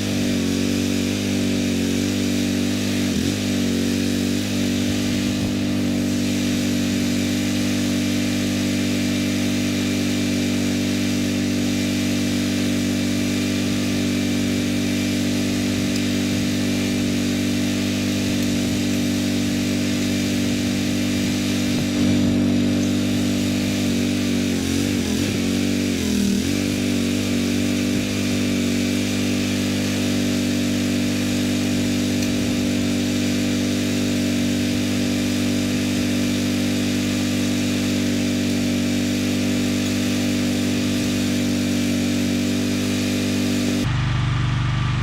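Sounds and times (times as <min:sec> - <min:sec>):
skid steer engine running: 0:00.0 - 0:45.0.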